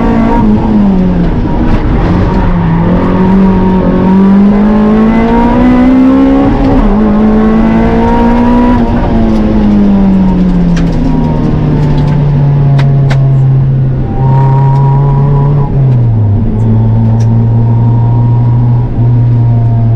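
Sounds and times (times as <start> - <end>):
car engine pulling hard: 0.0 - 19.9.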